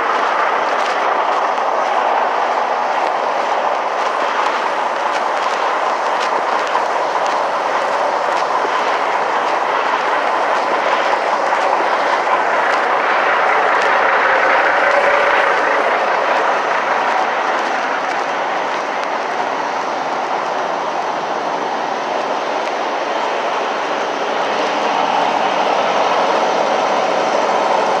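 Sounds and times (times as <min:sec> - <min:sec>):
diesel trucks idling: 0:00.0 - 0:28.0.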